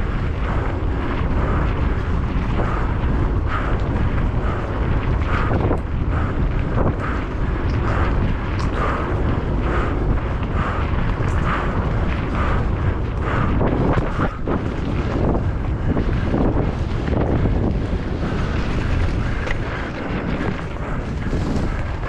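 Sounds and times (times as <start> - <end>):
mountain bike rumbling and rattling: 0.0 - 22.0
wind buffeting microphone: 0.0 - 22.0.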